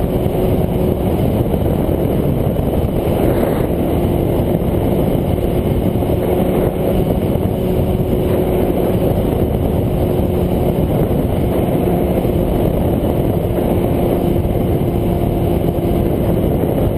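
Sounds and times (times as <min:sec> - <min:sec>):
motorcycle engine cruising: 0:00.0 - 0:16.9
wind and road noise: 0:00.0 - 0:16.9.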